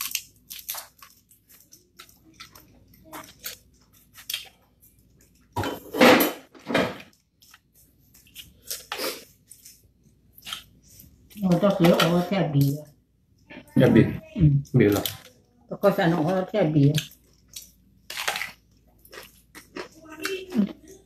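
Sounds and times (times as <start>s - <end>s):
food crunching and chewing: 0.0s - 5.9s, 7.0s - 13.9s, 14.6s - 15.6s, 16.3s - 21.0s.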